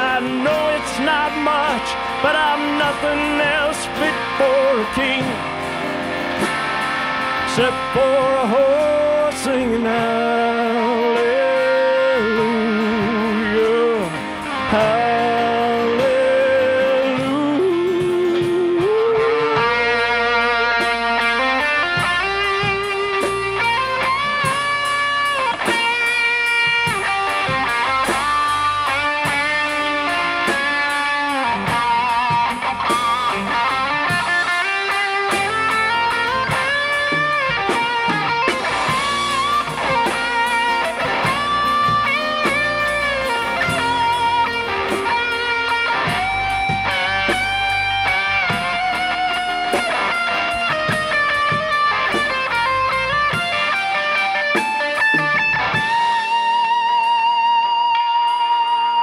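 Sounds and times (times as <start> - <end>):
acoustic guitar: 0.0 - 58.4
bass guitar: 0.0 - 59.0
drums: 0.0 - 59.0
electric guitar lead: 0.0 - 59.0.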